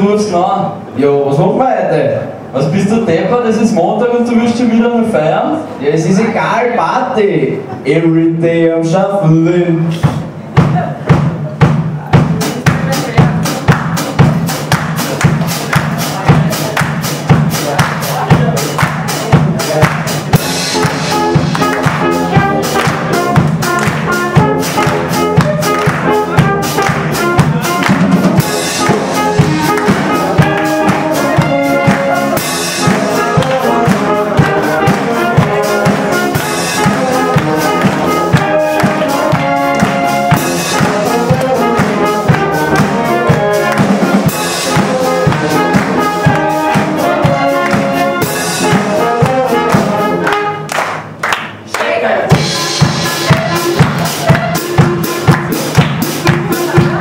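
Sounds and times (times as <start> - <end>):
brass band playing dance tune: 8.1 - 57.0.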